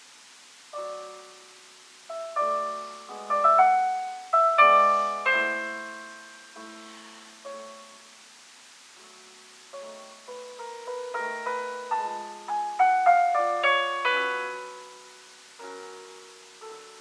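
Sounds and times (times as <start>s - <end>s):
piano notes and chords: 0.7s - 8.2s, 9.0s - 17.0s.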